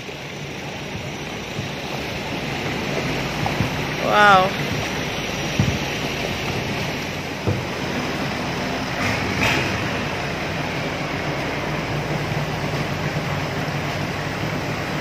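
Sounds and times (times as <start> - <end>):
boat engine running: 0.0 - 15.0
wind and water noise: 0.0 - 15.0.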